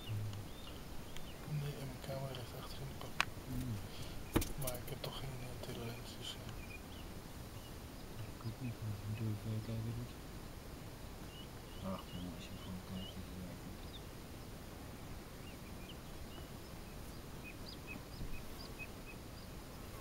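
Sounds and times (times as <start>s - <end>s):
distant small birds chirping: 0.0s - 20.0s
faint background noise: 0.0s - 20.0s
faint low hum: 0.0s - 20.0s.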